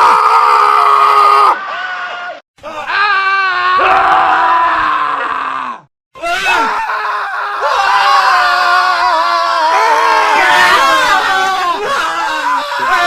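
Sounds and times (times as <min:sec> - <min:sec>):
men screaming: 0:00.0 - 0:13.0.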